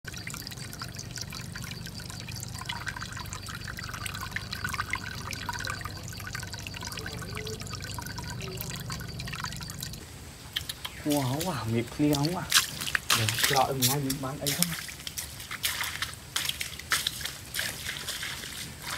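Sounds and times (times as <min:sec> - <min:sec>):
water trickling and dripping: 0:00.0 - 0:18.9
steady low hum: 0:00.1 - 0:15.5.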